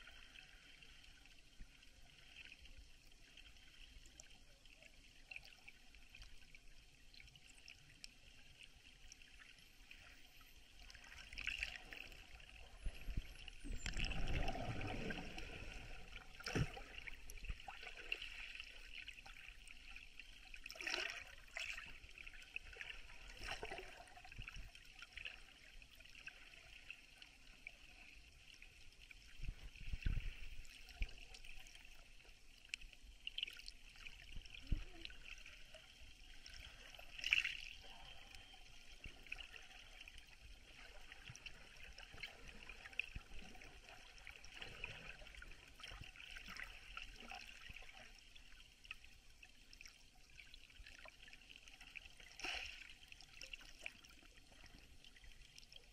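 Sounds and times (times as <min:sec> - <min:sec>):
water swishes: 0:00.0 - 0:55.9.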